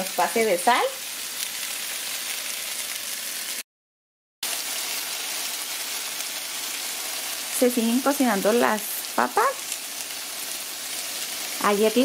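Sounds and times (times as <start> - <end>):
potatoes sizzling in oil: 0.0 - 3.6, 4.4 - 12.0.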